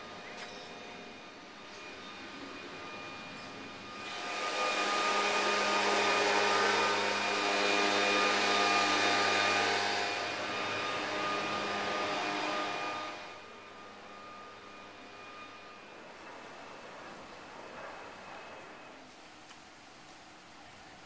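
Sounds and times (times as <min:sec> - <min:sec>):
motor whirring hum: 0:00.0 - 0:19.0.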